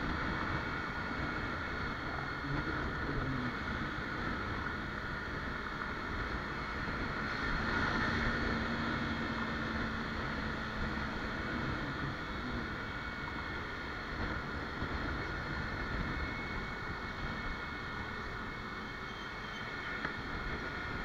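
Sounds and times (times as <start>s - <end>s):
wind rushing over microphone: 0.0s - 19.0s, 19.7s - 21.0s
motorcycle engine and road noise: 0.0s - 21.0s.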